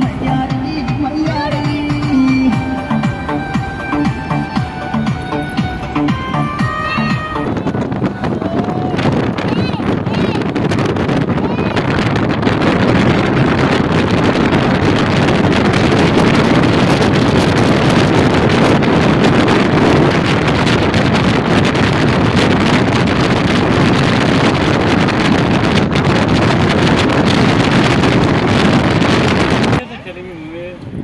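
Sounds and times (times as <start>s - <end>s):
tyre and road noise: 0.0s - 31.0s
wind buffeting microphone: 0.0s - 31.0s.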